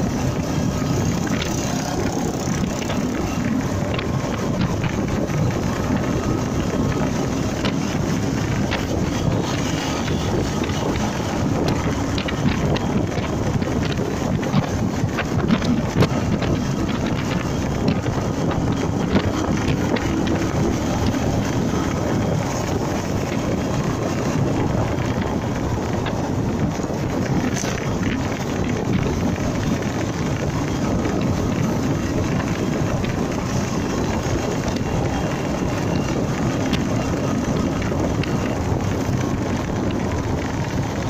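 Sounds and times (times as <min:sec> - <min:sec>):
motorcycle engine running: 0:00.0 - 0:41.0
wind buffeting microphone: 0:00.0 - 0:41.0.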